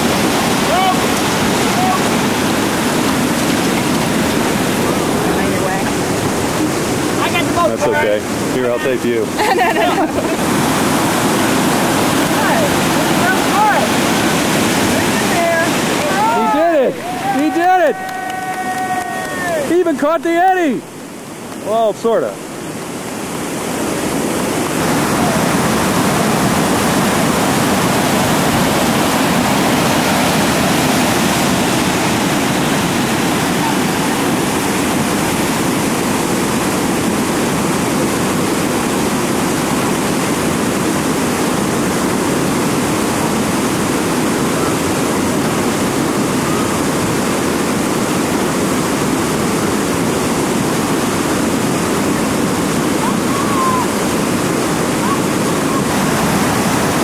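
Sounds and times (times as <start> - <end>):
whitewater rapid rushing: 0.0 - 57.0.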